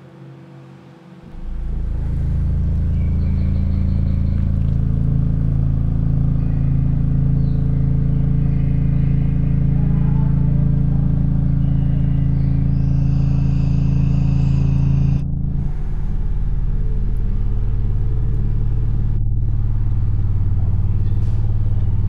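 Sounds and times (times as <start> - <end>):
deep droning rumble: 1.2 - 22.0.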